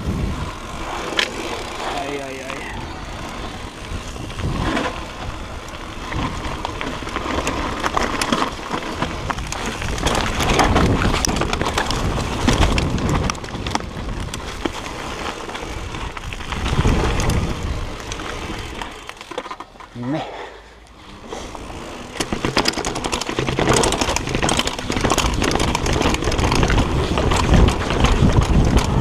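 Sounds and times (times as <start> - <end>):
wind rumbling on microphone: 0.0 - 19.2, 21.4 - 29.0
bike clattering and rattling: 0.0 - 20.3, 20.9 - 29.0
bike tyre noise on trail: 0.0 - 29.0.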